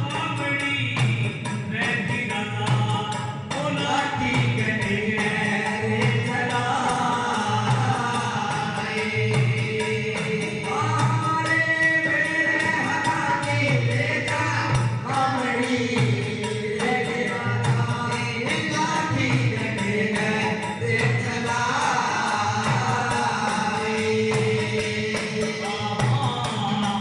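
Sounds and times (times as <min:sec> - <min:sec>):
person singing long held lines: 0:00.0 - 0:27.0
steady drum beat: 0:00.0 - 0:27.0.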